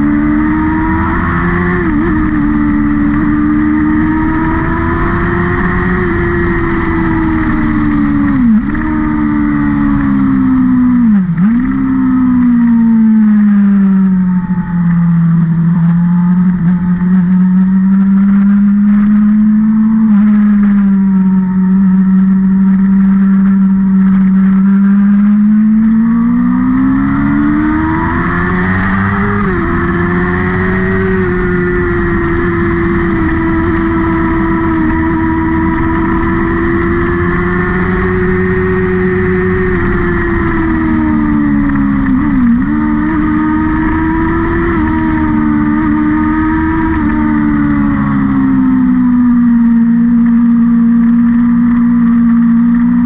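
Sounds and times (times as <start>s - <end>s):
race car engine: 0.0s - 53.0s.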